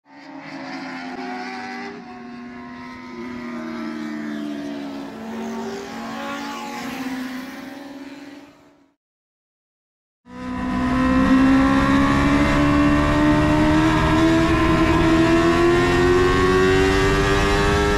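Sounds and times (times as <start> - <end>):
race car engines at high revs: 0.1 - 9.0, 10.3 - 17.9.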